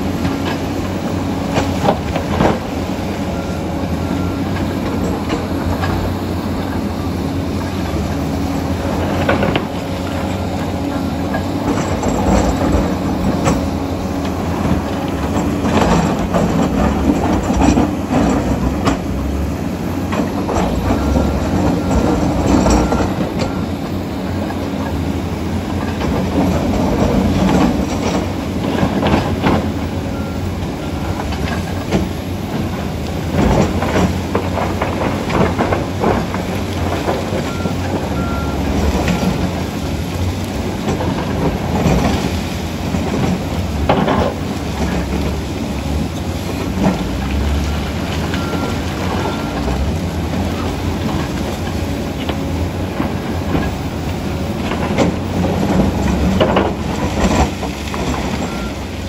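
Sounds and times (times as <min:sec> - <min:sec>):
clanks of steel track and rock: 0:00.0 - 0:08.0, 0:08.8 - 0:25.0, 0:25.6 - 0:59.0
bulldozer diesel engine under load: 0:00.0 - 0:59.0
excavator diesel engine: 0:00.0 - 0:59.0
steel tracks clanking and squealing: 0:00.0 - 0:59.0.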